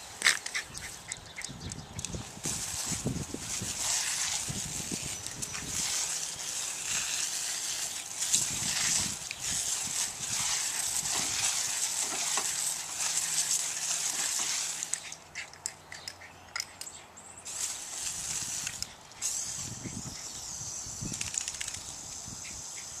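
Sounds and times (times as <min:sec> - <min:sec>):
garden hose spraying on grass: 0:02.0 - 0:15.3, 0:17.4 - 0:23.0.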